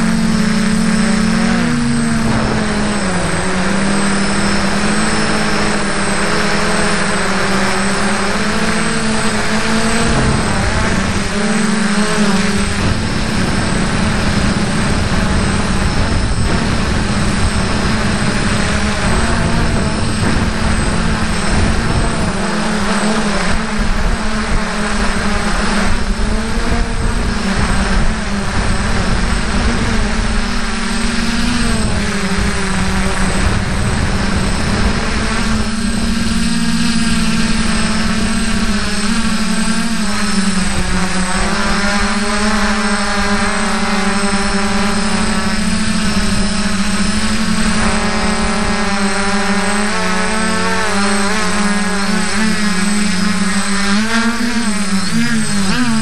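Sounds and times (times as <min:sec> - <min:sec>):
drone propellers buzzing: 0:00.0 - 0:56.0.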